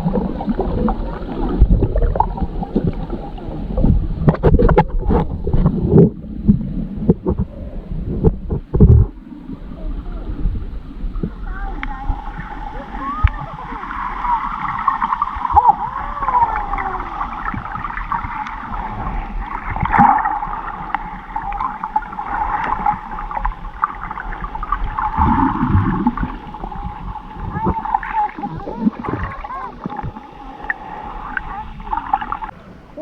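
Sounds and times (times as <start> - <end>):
sea water sloshing and gurgling: 0.0 - 33.0.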